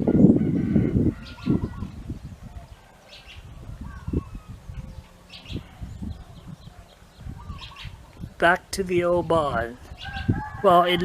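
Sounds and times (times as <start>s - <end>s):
small birds chirping: 1.1s - 11.0s.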